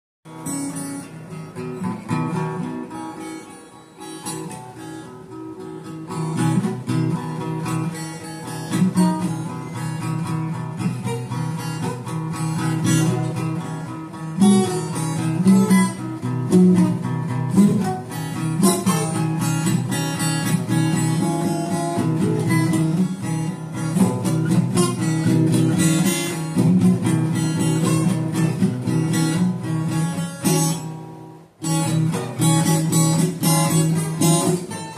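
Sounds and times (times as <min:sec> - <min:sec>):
acoustic guitar strumming: 0:00.3 - 0:34.9.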